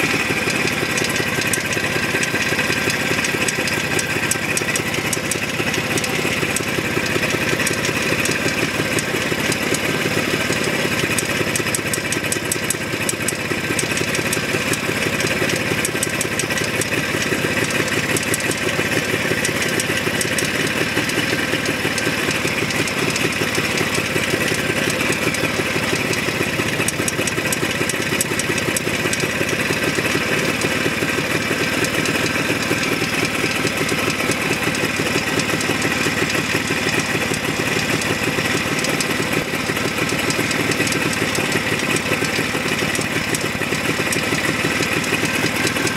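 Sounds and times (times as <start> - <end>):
engine knocking: 0.0 - 45.9
two-stroke engine idling: 0.0 - 45.9.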